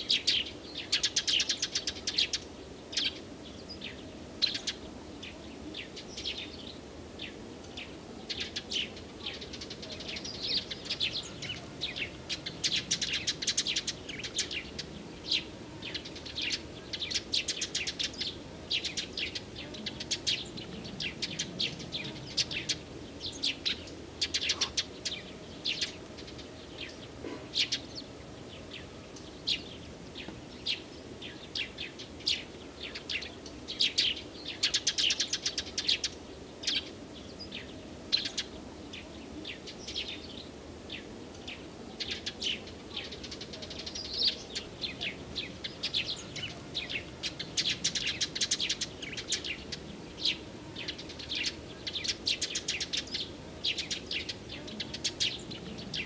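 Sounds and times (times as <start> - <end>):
faint low background noise: 0.0 - 56.0
songbirds chirping and singing: 0.0 - 56.0.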